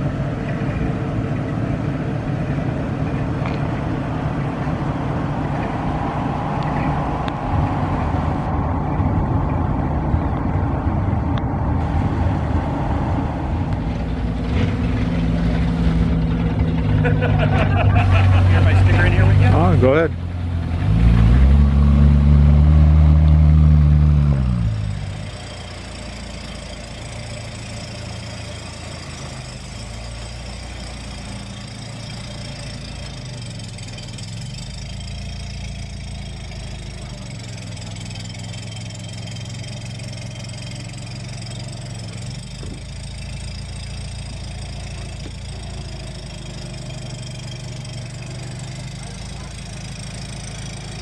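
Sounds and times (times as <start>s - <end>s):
car engine idling: 0.0s - 51.0s
car engine revving: 0.0s - 51.0s.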